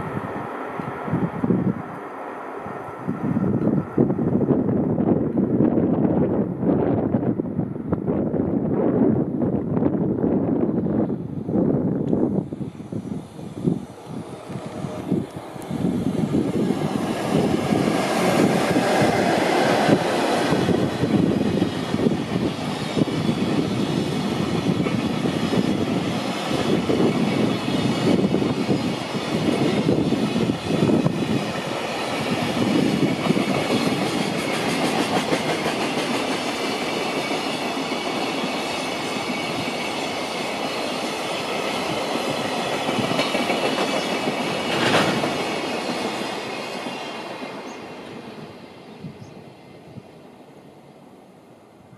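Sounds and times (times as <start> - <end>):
electric locomotive passing: 0.0 - 51.9.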